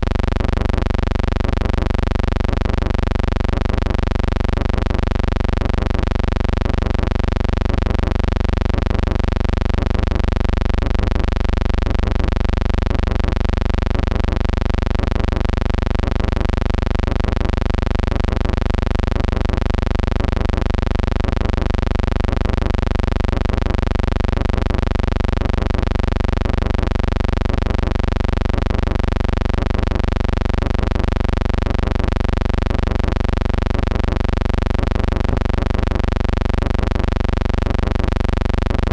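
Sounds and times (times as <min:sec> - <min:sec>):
steady buzzing hum: 0:00.0 - 0:38.9.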